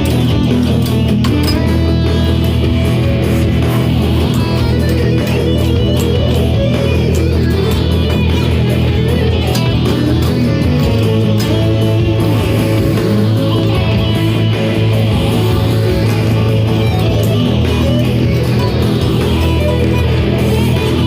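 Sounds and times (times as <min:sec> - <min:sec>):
electric guitar fast picking: 0:00.0 - 0:21.0.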